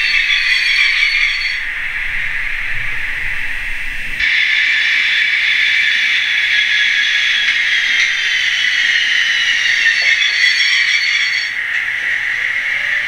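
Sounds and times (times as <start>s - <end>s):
high whine falling in pitch: 0.0s - 13.0s
model locomotive running sound: 0.0s - 13.0s
steady hissing rush: 0.0s - 13.0s.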